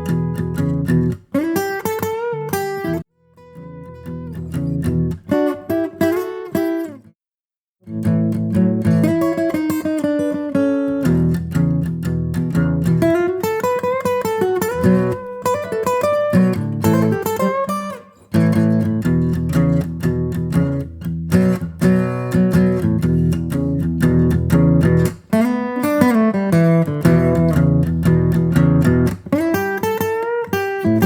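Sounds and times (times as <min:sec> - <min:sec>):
acoustic guitar melody: 0:00.0 - 0:07.1, 0:07.8 - 0:31.0.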